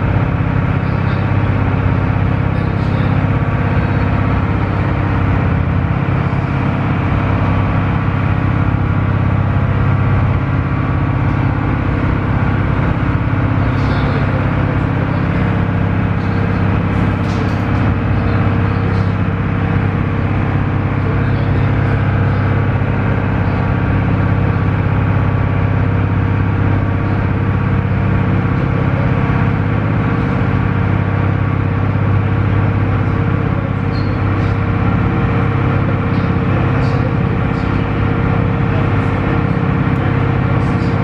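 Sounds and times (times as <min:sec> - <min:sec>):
ferry engine droning: 0:00.0 - 0:41.0.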